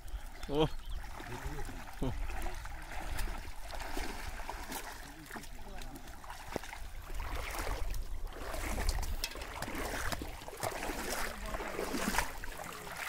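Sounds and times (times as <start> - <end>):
person wading through water: 0.0 - 13.0
small splashes and drips: 0.0 - 13.0.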